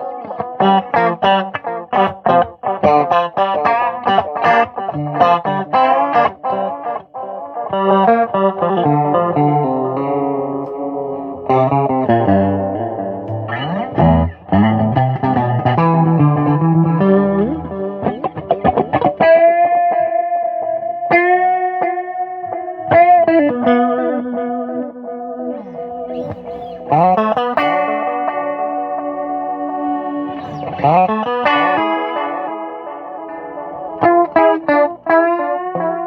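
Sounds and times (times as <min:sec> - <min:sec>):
electric guitar with effects: 0:00.0 - 0:36.0.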